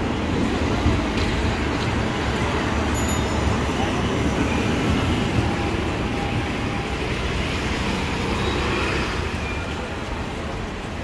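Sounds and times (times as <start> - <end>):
tram wheels rumbling: 0.0 - 11.0.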